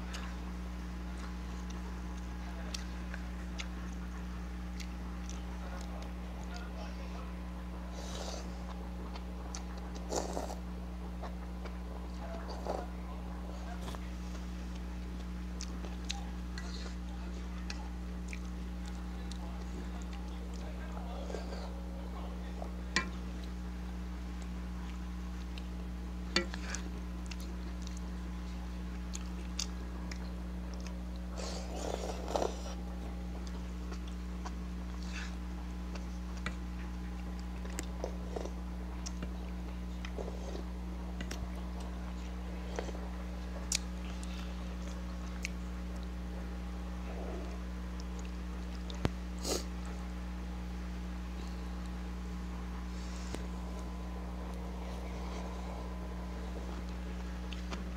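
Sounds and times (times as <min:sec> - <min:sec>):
steady low hum: 0:00.0 - 0:57.9
chewing noodles: 0:00.1 - 0:06.8, 0:07.7 - 0:23.7, 0:24.3 - 0:50.2, 0:51.3 - 0:57.9.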